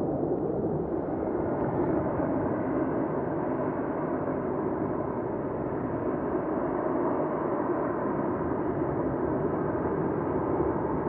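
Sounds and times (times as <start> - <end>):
distant jet engines: 0.0 - 11.0.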